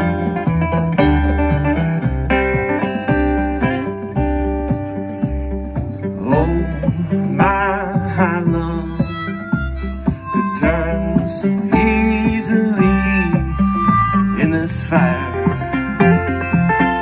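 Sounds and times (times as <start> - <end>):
congas: 0.0 - 17.0
electric bass: 0.0 - 17.0
harmonica bending notes: 0.0 - 17.0
strummed acoustic guitar: 0.0 - 17.0.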